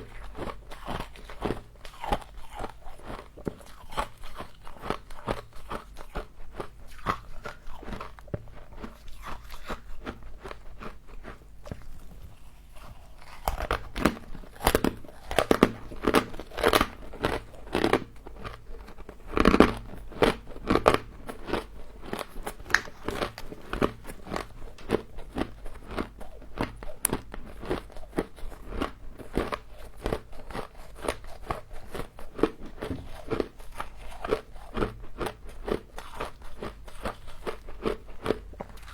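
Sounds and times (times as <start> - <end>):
person chewing crunchy frost: 0.0 - 38.9.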